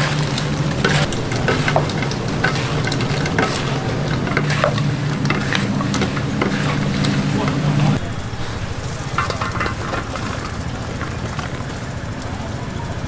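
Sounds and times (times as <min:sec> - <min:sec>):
food sizzling in hot oil: 0:00.0 - 0:11.7
crackles and pops of frying: 0:00.0 - 0:12.4.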